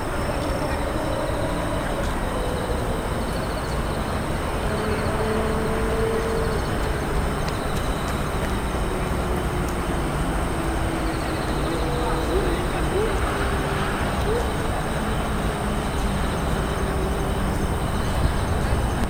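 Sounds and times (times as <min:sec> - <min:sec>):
distant vehicle engines rumbling: 0:00.0 - 0:19.0
faint droning tone falling in pitch: 0:00.0 - 0:19.0.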